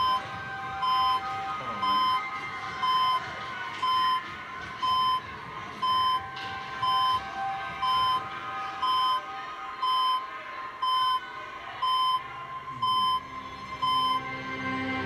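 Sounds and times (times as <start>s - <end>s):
low music tone: 0.0s - 11.1s, 12.3s - 15.0s
patient monitor beeping: 0.0s - 14.3s.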